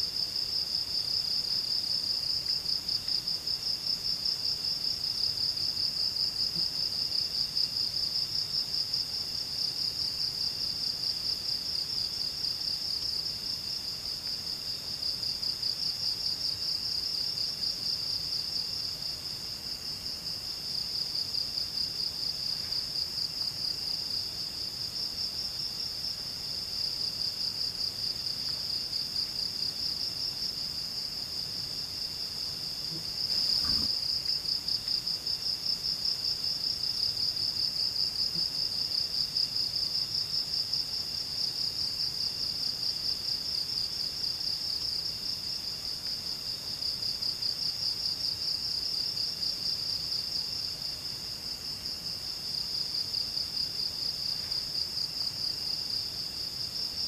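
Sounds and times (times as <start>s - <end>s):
faint lower insect call: 0.0s - 57.0s.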